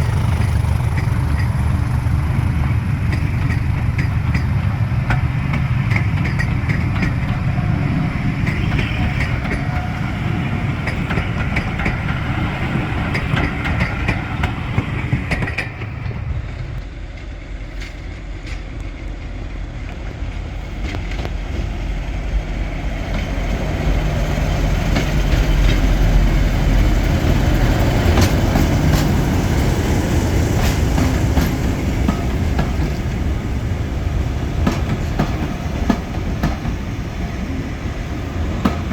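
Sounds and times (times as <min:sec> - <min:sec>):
diesel locomotive rumbling: 0:00.0 - 0:38.9
train wheels clacking: 0:00.0 - 0:38.9.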